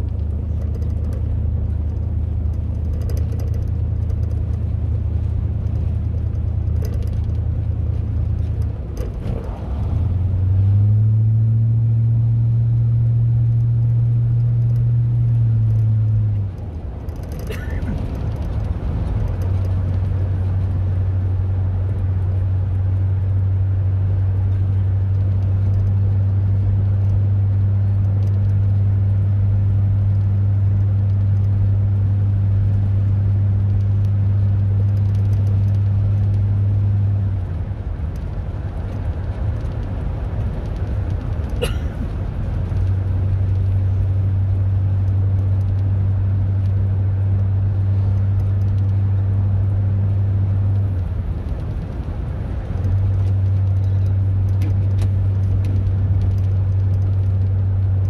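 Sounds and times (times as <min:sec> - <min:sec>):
car road noise: 0:00.0 - 0:58.0
low hum: 0:00.0 - 0:58.0.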